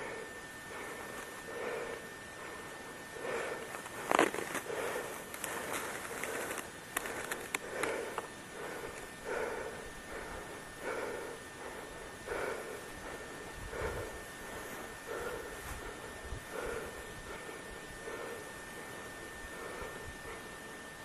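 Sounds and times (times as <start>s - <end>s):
person breathing hard: 0.0s - 21.0s.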